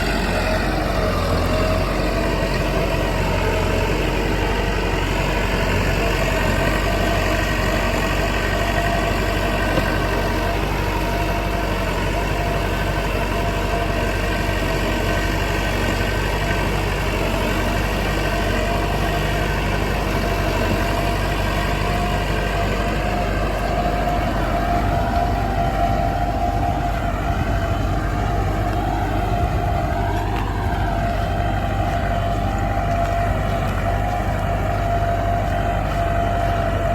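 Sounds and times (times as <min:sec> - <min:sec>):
held whine: 0:00.0 - 0:36.9
tractor engine running: 0:00.0 - 0:36.9.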